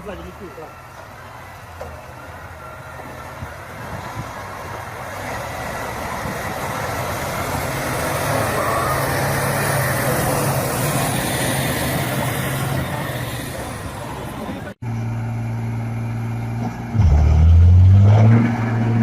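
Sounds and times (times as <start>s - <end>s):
large vehicle engine humming: 0.0s - 19.0s.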